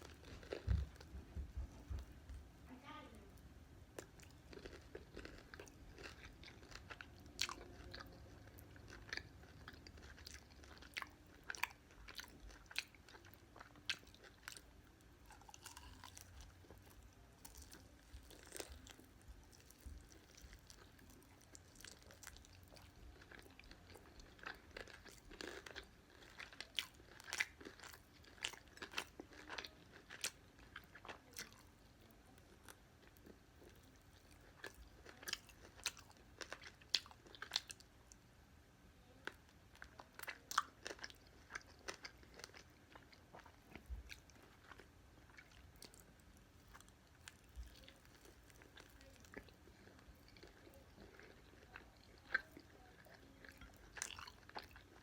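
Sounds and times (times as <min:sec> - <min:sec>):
chewing crispy fried chicken: 0:00.0 - 0:03.1, 0:03.9 - 0:38.3, 0:39.0 - 0:55.0.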